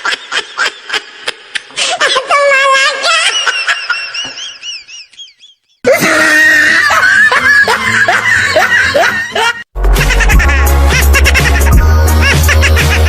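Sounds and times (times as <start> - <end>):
loud laughter: 0.0 - 13.0.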